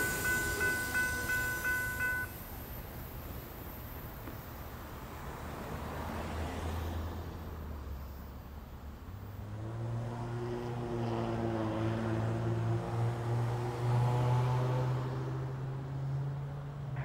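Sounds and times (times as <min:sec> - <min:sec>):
minivan engine and tyres: 0:00.0 - 0:17.0.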